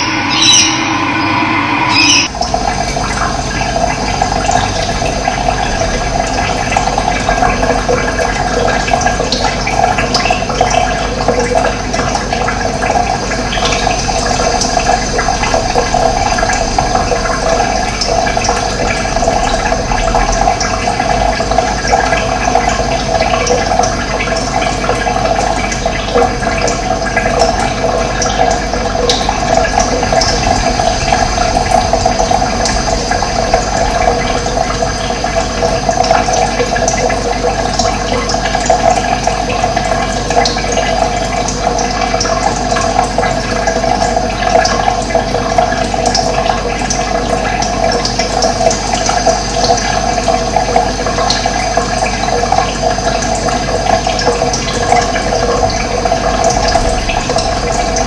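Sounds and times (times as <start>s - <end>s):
water running: 0.0s - 58.0s.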